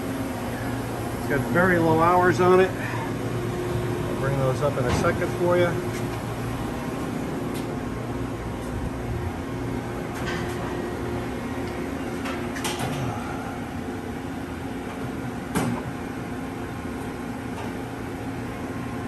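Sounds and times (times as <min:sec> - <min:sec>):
machining center hum: 0:00.0 - 0:19.0.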